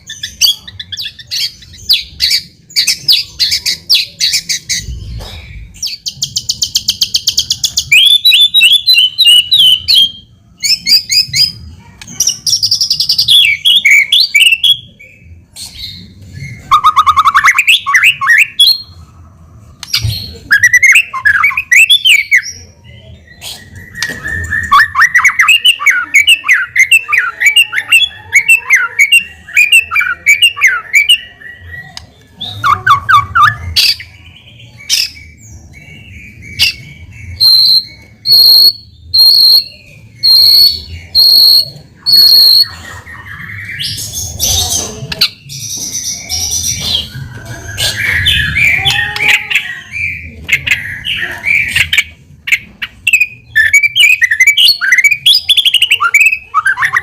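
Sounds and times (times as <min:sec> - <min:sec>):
songbird singing: 0:00.0 - 0:19.0, 0:19.8 - 0:57.0.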